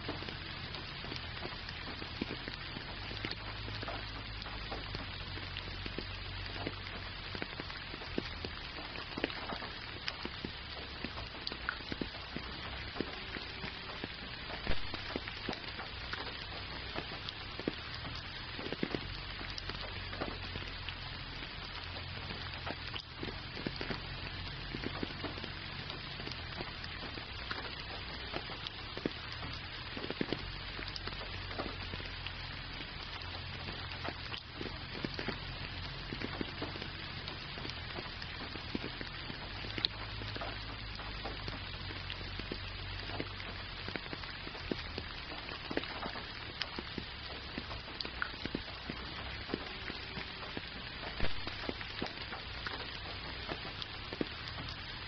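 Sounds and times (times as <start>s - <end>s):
gentle rain hiss: 0.0s - 55.0s
raindrops ticking close by: 0.0s - 55.0s.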